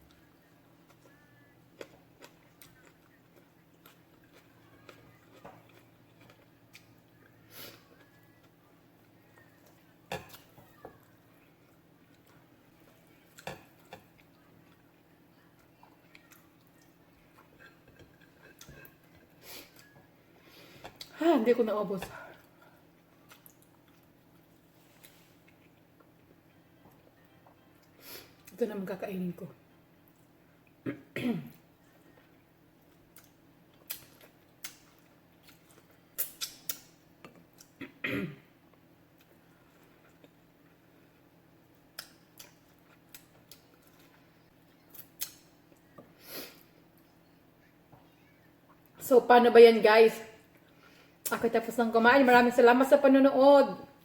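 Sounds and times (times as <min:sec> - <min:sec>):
quiet chewing: 0:00.0 - 0:21.1, 0:22.3 - 0:28.6, 0:31.5 - 0:37.8, 0:38.7 - 0:49.0.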